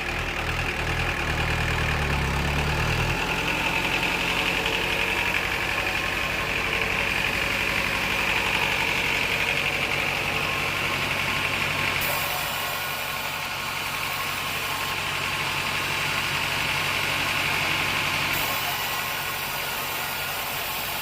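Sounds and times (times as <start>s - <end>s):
sawmill machinery humming and whining: 0.0s - 21.0s.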